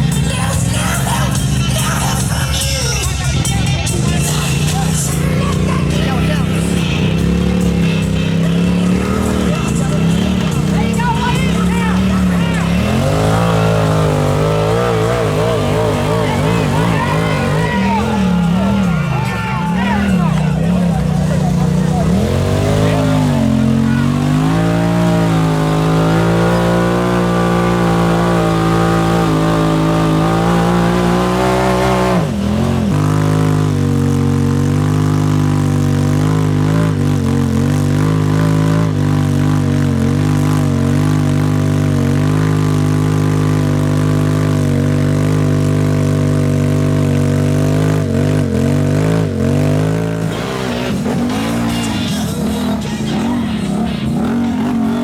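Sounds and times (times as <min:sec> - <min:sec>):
engine running at high revs: 0:00.0 - 0:55.0.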